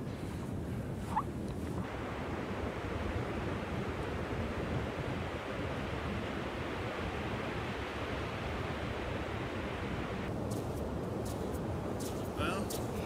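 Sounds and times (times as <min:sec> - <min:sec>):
ocean surf breaking on beach: 0:01.8 - 0:13.0.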